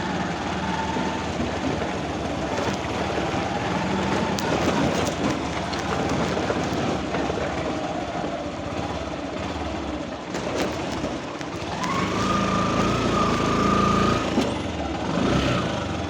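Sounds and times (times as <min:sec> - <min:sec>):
road noise: 0:00.0 - 0:16.0
vehicle engine running: 0:00.0 - 0:16.0.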